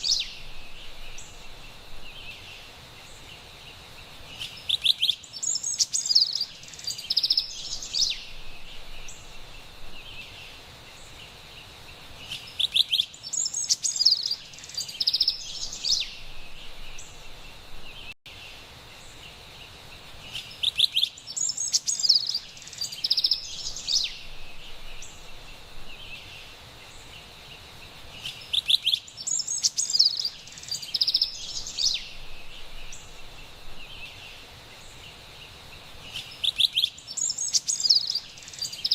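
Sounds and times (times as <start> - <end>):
wren singing: 0.0 - 3.4, 4.2 - 11.4, 12.2 - 18.2, 20.2 - 38.9
faint high hiss: 0.0 - 38.9.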